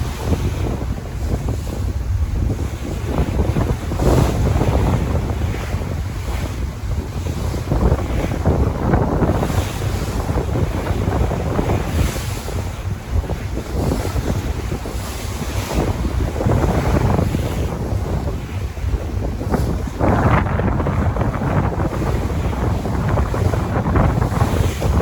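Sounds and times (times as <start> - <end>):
sea waves breaking on shore: 0.0 - 25.0
wind buffeting microphone: 0.0 - 25.0.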